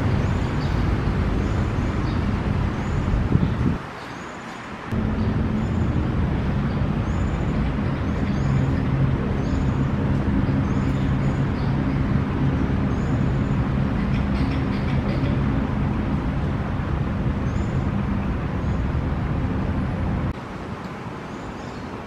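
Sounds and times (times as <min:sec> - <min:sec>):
city road traffic rumble: 0:00.0 - 0:22.0.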